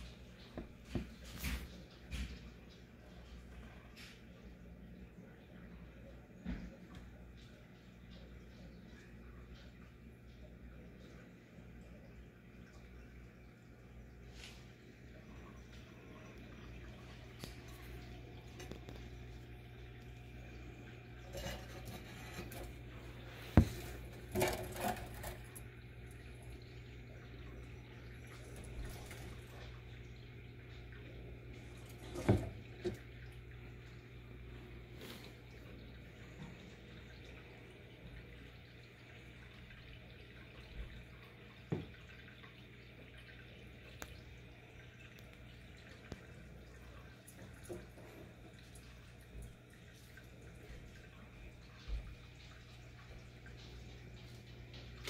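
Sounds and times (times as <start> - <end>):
low steady hum: 0.0 - 55.0
water drips and splashes: 0.0 - 55.0.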